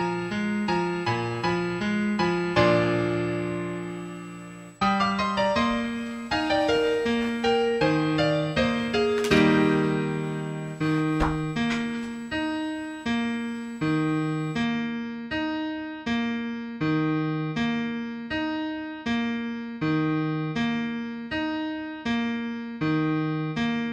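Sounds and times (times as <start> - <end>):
piano chords: 0.0 - 23.9.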